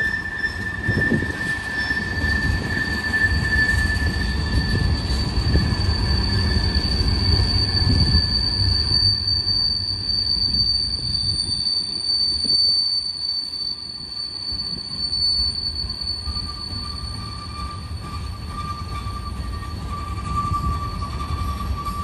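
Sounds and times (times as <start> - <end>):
freight train rumbling: 0.0 - 22.0
high-pitched wheel squeal: 0.0 - 22.0.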